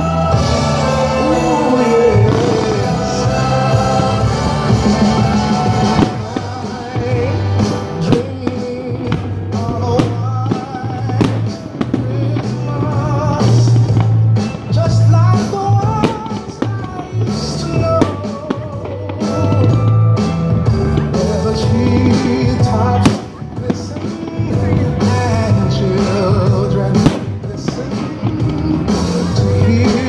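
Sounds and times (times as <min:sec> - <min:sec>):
christmas music: 0:00.0 - 0:30.0
steady drum beat: 0:00.0 - 0:30.0.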